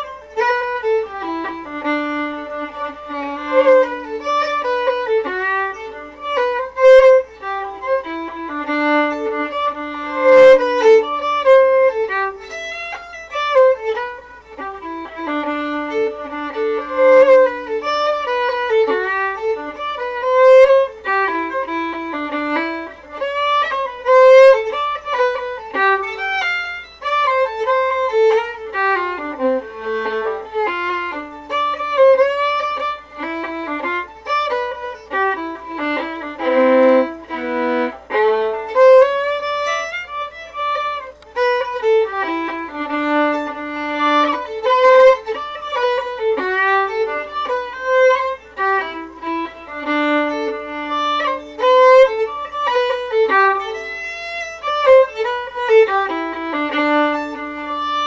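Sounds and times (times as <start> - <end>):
solo fiddle playing: 0.0 - 58.0.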